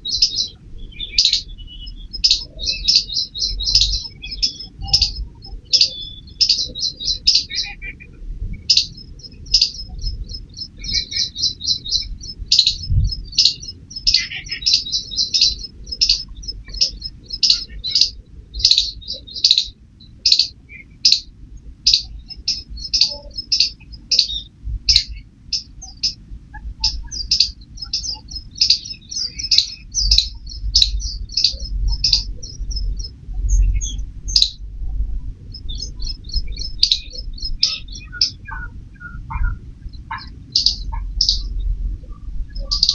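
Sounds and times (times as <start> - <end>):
squirrel chirping: 0.0 - 42.9.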